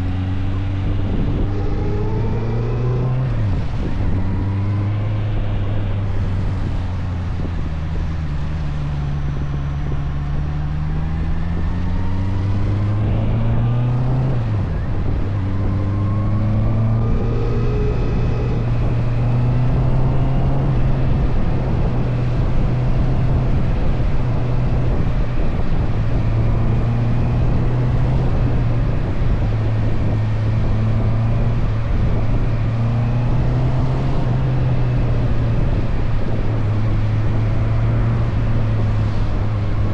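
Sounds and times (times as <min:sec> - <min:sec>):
motorcycle engine revving: 0:00.0 - 0:39.9
wind on microphone: 0:00.0 - 0:39.9.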